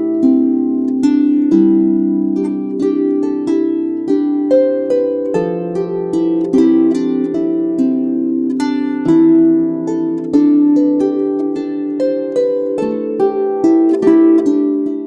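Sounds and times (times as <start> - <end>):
plucked harp-like melody: 0.0 - 15.0.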